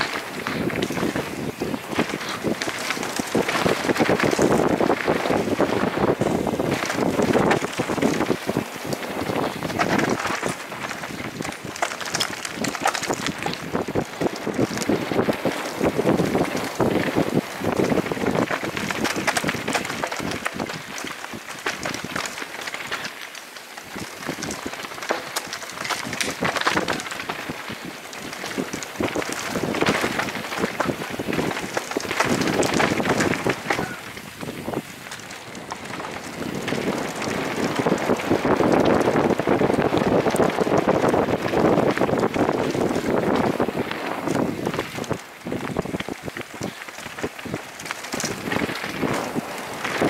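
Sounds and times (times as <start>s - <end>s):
bike rattling and knocking: 0.0s - 50.0s
tyres rolling over dirt and stones: 0.0s - 50.0s
wind buffeting microphone: 0.0s - 50.0s.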